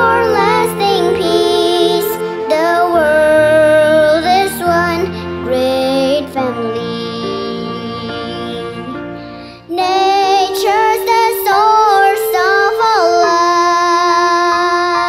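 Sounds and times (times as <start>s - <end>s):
child singing: 0.0s - 9.0s, 9.7s - 15.0s
backing music: 0.0s - 15.0s.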